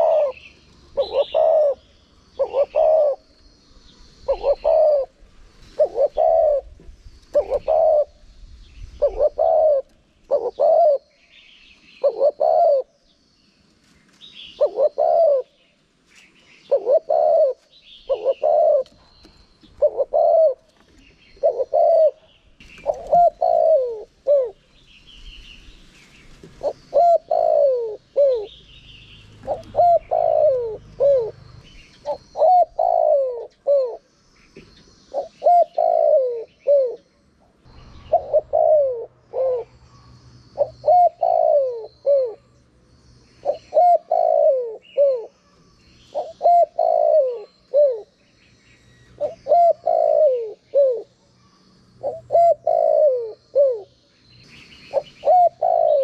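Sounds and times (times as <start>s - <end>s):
dove cooing: 0.0s - 3.4s, 4.2s - 13.1s, 14.4s - 15.8s, 16.5s - 24.8s, 26.4s - 42.6s, 43.4s - 48.3s, 49.1s - 54.0s, 54.8s - 56.0s
small birds chirping: 0.0s - 56.0s.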